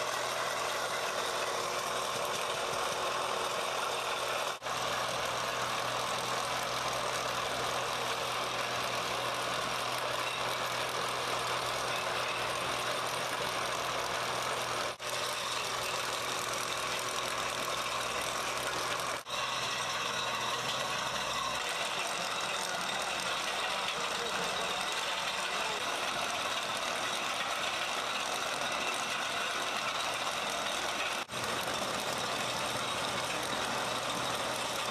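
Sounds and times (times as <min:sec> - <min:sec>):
heavy machinery running: 0:00.0 - 0:34.9.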